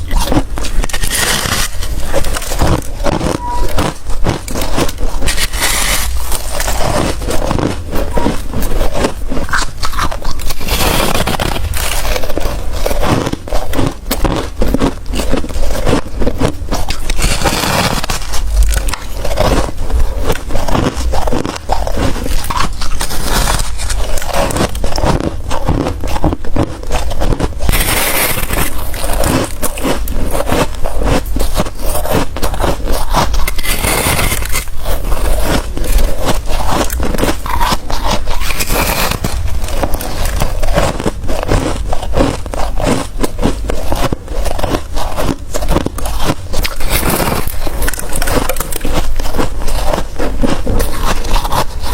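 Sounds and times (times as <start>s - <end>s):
ice being bitten and crunched: 0.0s - 51.9s.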